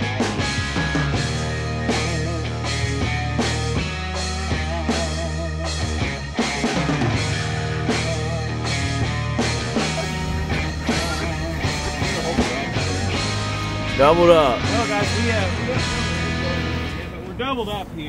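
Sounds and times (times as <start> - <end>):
steady drum beat: 0.0 - 17.1
rock music: 0.0 - 17.4
sustained bass line: 0.0 - 17.4.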